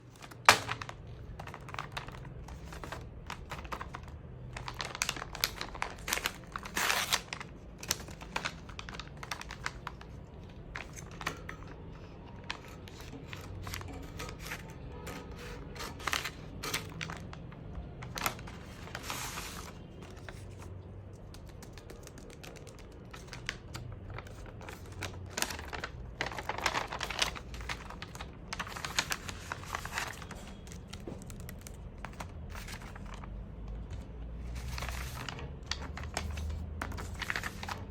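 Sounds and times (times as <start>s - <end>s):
plastic packaging crinkling and tearing: 0.0s - 37.9s.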